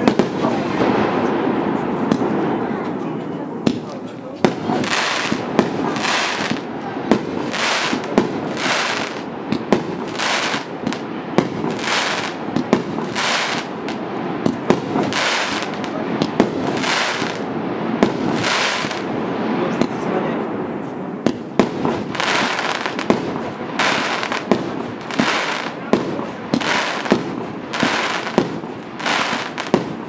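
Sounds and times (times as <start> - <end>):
firework shots banging: 0.0 - 2.5, 3.6 - 20.1, 21.2 - 30.0.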